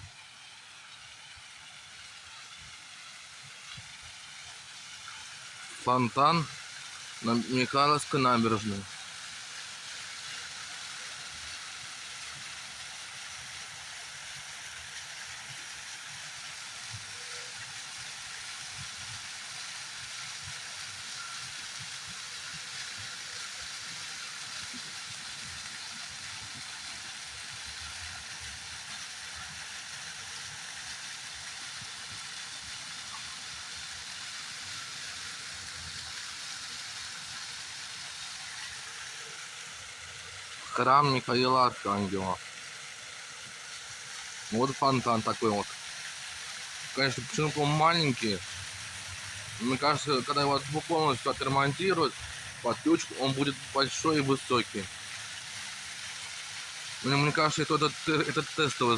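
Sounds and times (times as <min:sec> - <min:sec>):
fountain water splashing: 0:00.0 - 0:58.9.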